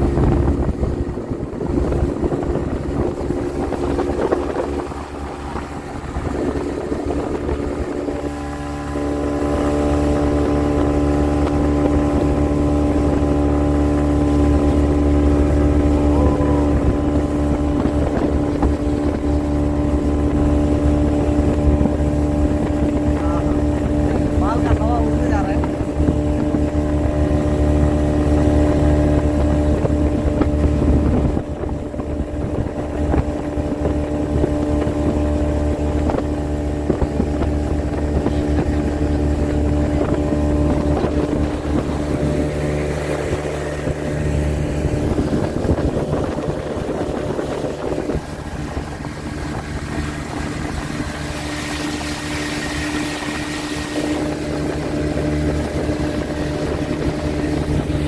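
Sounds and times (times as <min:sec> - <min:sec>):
hull rushing through water: 0:00.0 - 0:58.0
speedboat engine running: 0:00.0 - 0:58.0.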